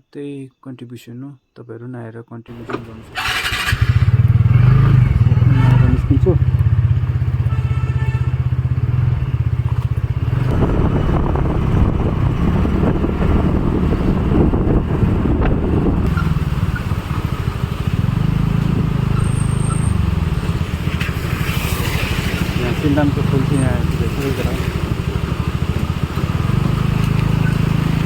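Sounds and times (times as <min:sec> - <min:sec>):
motorcycle engine running: 0:02.5 - 0:28.0.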